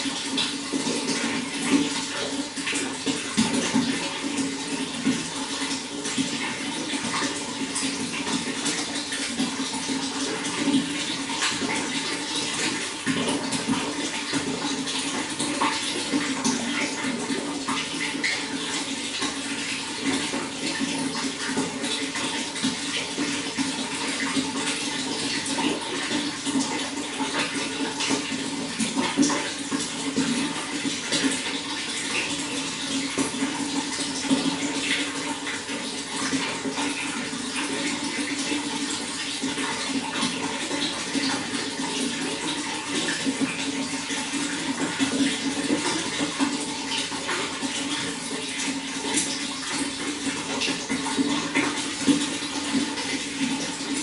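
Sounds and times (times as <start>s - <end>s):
running water splashing: 0.0s - 54.0s.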